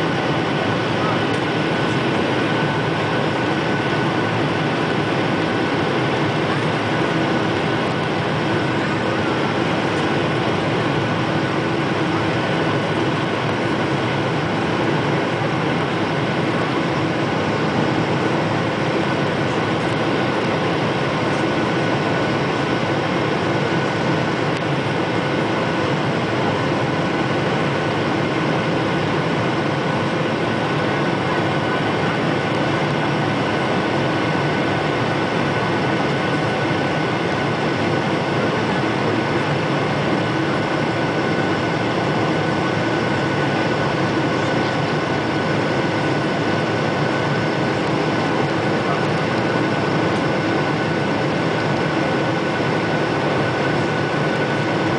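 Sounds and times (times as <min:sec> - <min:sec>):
jet engines roaring: 0:00.0 - 0:54.9.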